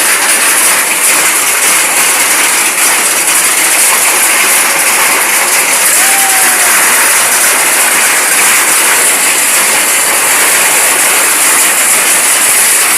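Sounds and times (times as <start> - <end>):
heavy rain and hail: 0.0 - 12.9.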